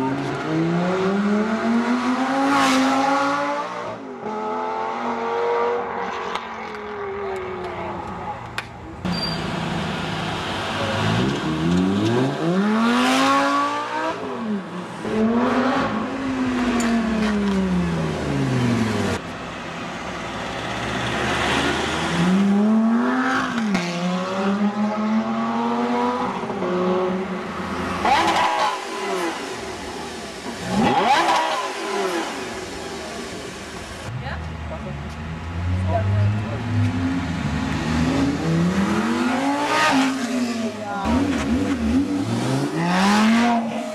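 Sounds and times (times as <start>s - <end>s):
car engines accelerating hard: 0.0s - 8.5s, 9.4s - 19.2s, 19.8s - 43.9s.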